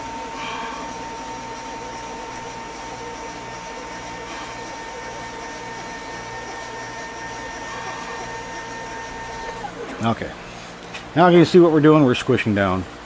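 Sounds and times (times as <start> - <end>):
motor whirring with high whine: 0.0 - 10.8.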